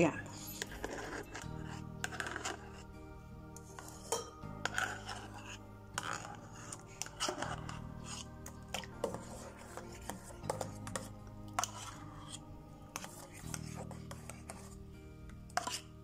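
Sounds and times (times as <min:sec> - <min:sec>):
utensil scraping metal bowl: 0:00.0 - 0:02.9, 0:03.6 - 0:16.0
soft background music: 0:00.0 - 0:16.0.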